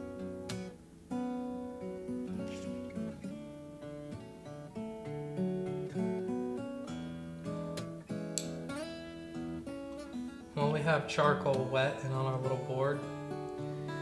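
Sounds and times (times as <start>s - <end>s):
acoustic guitar picking a melody: 0.0s - 14.0s.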